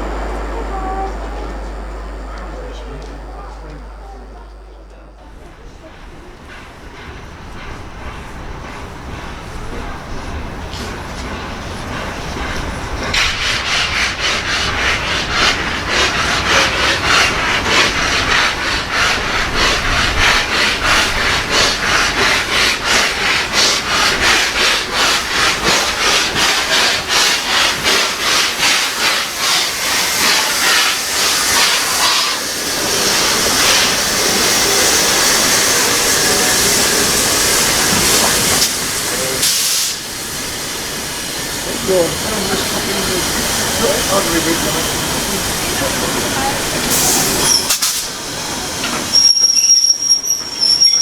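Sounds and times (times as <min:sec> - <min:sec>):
steady rushing steam hiss: 0:00.0 - 0:50.5
steam locomotive chuffing: 0:00.0 - 0:51.0.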